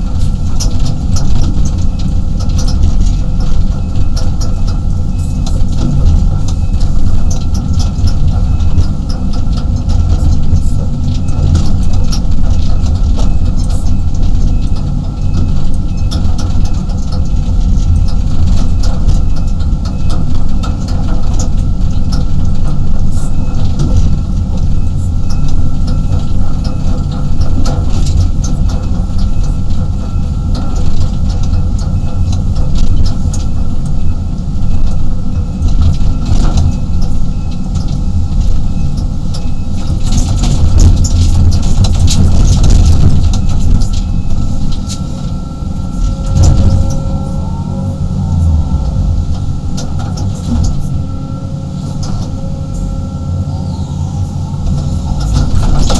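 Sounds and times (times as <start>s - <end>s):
excavator engine drone and whine: 0.0s - 55.9s.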